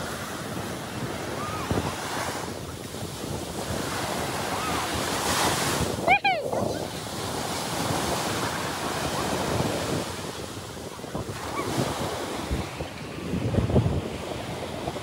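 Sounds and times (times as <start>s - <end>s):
sea surf breaking on beach: 0.0s - 15.0s
wind buffeting microphone: 0.0s - 15.0s.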